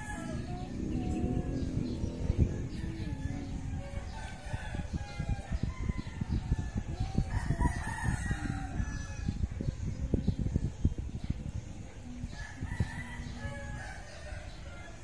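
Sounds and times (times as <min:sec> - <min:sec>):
low irregular rumbling: 0:00.0 - 0:15.0.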